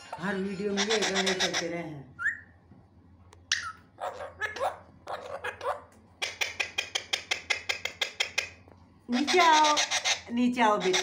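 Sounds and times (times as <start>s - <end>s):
parakeet squawking: 0.1s - 2.5s, 3.5s - 11.0s.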